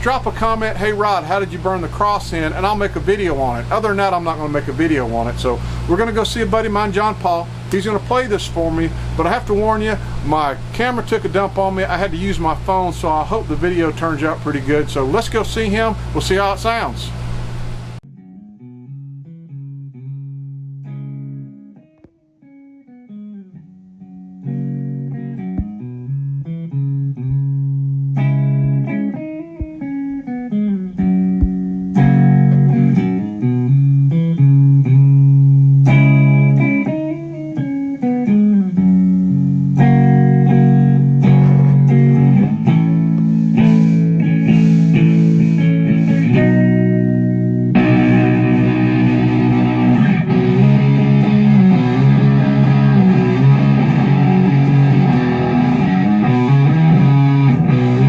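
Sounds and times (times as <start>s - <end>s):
electric guitar through amplifier: 0.0s - 58.0s.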